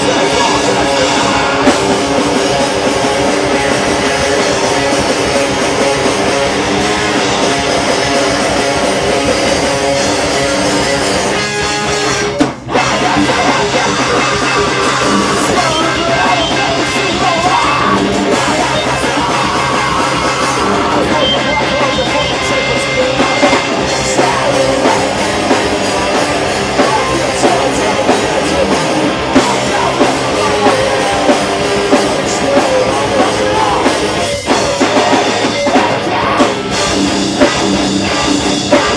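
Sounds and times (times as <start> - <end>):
metal band playing live: 0.0 - 38.9.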